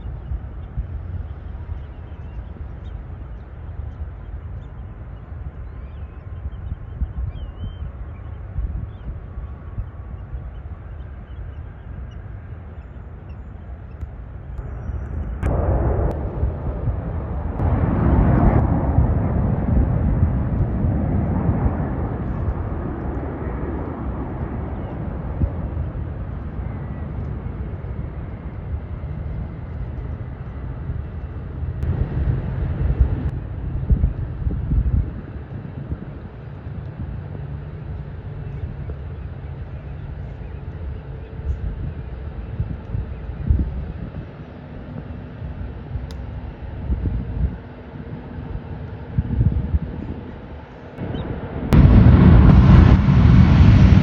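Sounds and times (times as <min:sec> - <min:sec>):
jet aircraft rumble: 0:00.0 - 0:54.0.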